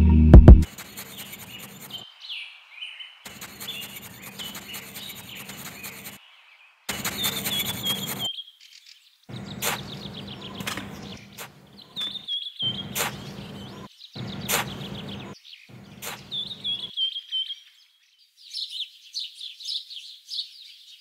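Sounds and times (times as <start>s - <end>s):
small birds chirping: 0.9s - 21.0s.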